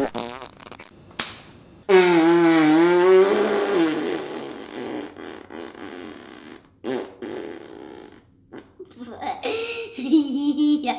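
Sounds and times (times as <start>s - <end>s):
child blowing a raspberry: 0.0s - 0.9s, 1.9s - 9.8s.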